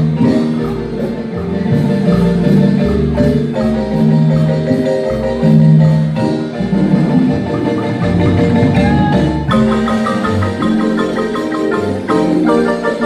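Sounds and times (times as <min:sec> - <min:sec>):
low bass notes: 0:00.0 - 0:13.0
marimba melody in rolled notes: 0:00.0 - 0:13.0.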